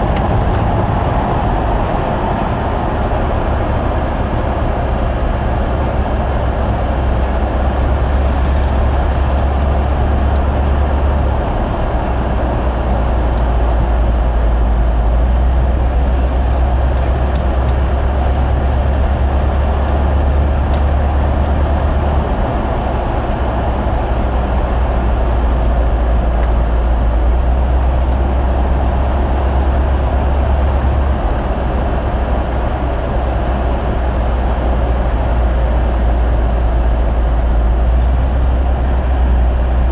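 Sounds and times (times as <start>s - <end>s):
car engine droning: 0.0s - 39.9s
road and wind noise: 0.0s - 39.9s.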